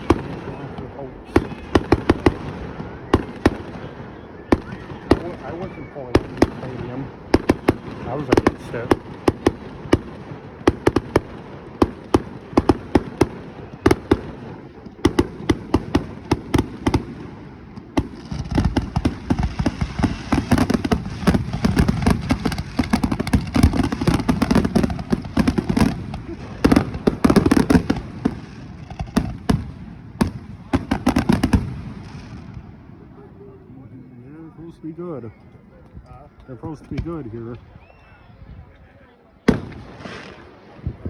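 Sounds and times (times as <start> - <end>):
fireworks cracking and popping: 0.0 - 32.8, 39.4 - 41.0.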